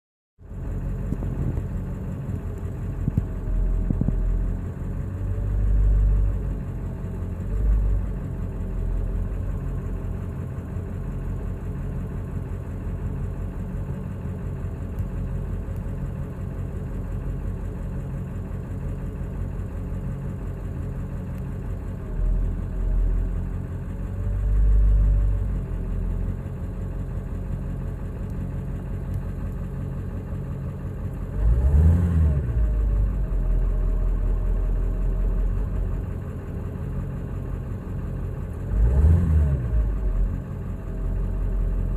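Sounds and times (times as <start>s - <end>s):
diesel engine idling roughly: 0.4s - 38.9s, 39.7s - 41.9s.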